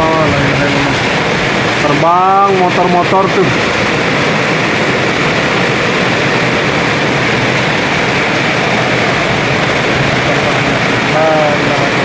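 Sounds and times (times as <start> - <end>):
strong storm wind blowing: 0.0 - 12.0.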